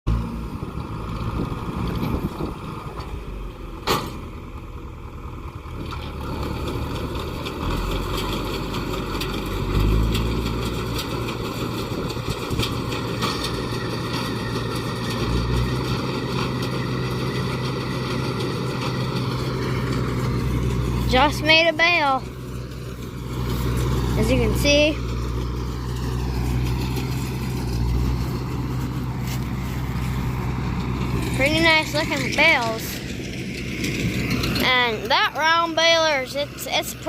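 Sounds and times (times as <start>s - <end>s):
diesel tractor running: 0.1s - 37.0s.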